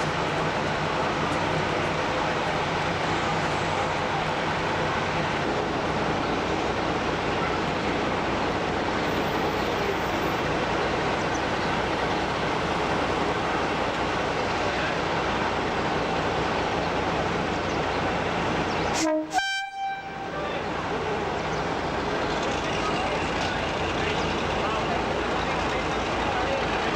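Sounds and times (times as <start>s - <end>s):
train running: 0.0s - 26.9s.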